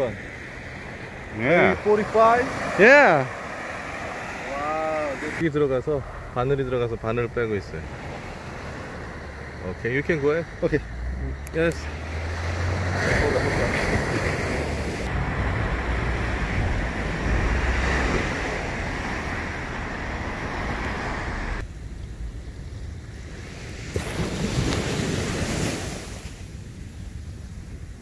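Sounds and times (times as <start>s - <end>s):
ocean surf washing onto beach: 0.0s - 21.7s, 22.8s - 28.0s
wind buffeting microphone: 0.7s - 28.0s.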